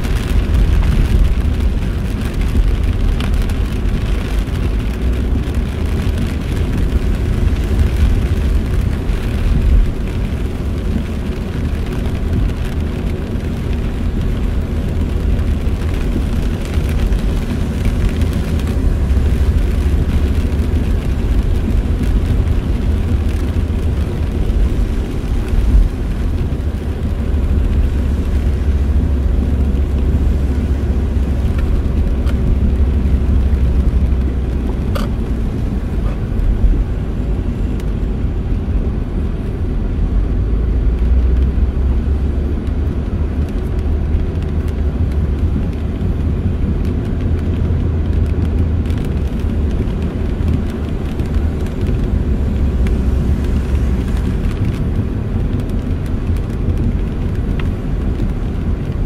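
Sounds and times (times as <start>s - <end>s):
car cabin low rumble: 0.0s - 59.0s
rain hissing on car: 0.0s - 59.0s.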